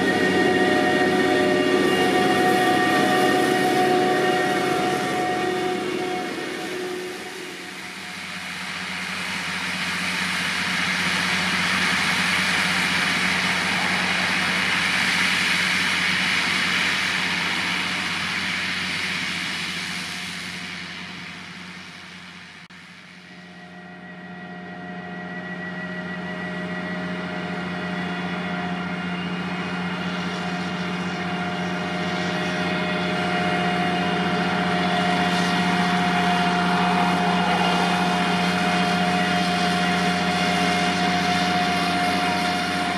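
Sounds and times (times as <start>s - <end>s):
farm machine engine hum: 0.0s - 20.6s, 23.0s - 42.9s
high machinery whine: 0.0s - 42.9s.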